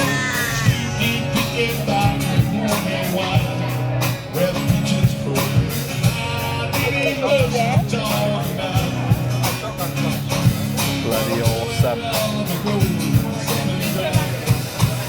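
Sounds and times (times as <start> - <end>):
person singing: 0.0 - 10.1, 11.1 - 15.0
bass: 0.0 - 15.0
drums steady beat: 0.0 - 15.0
guitar: 0.0 - 15.0.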